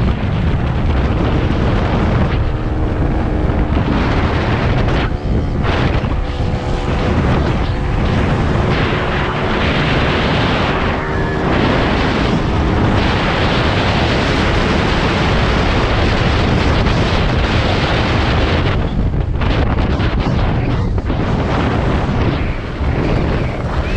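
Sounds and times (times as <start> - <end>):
dirt bike engine running: 0.0 - 23.9
wind buffeting microphone: 0.0 - 23.9.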